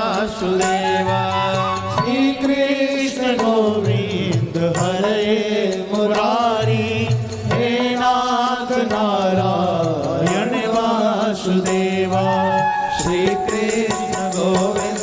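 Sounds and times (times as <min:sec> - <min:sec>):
devotional song: 0:00.0 - 0:15.0
steady percussion beat: 0:00.0 - 0:15.0.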